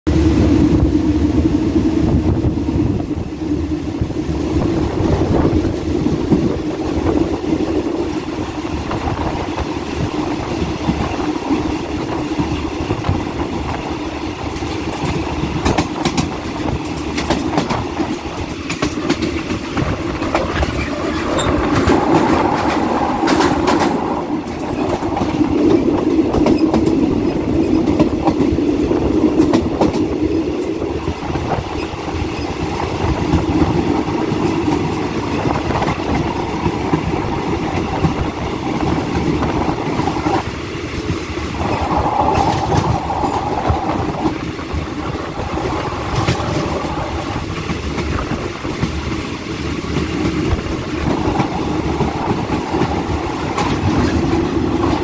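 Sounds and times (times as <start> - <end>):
train wheels rumbling on rails: 0.1 - 55.0
clickety-clack over rail joints: 2.0 - 55.0.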